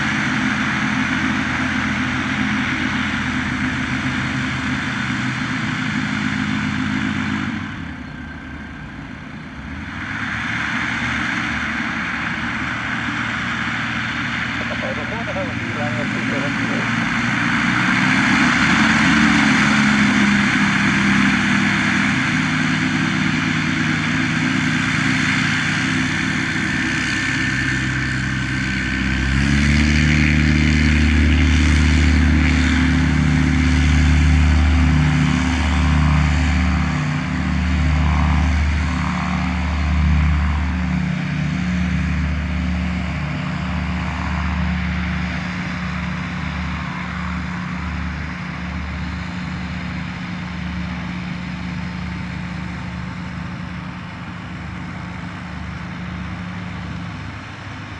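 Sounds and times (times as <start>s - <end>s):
light aircraft engine and propeller: 0.0s - 57.9s.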